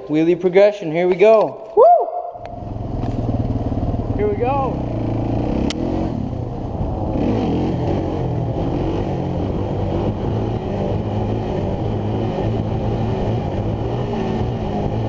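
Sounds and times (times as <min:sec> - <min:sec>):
quad bike engine revving: 0:02.4 - 0:15.0.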